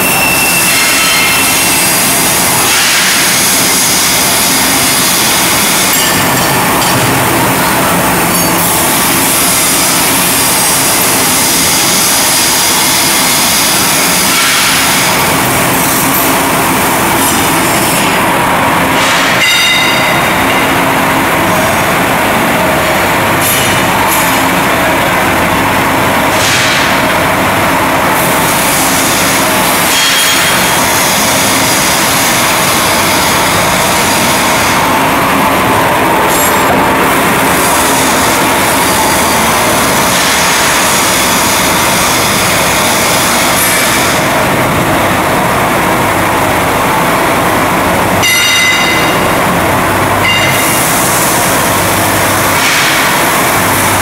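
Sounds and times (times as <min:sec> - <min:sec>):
machinery hissing rush: 0:00.0 - 0:48.2, 0:48.8 - 0:54.0.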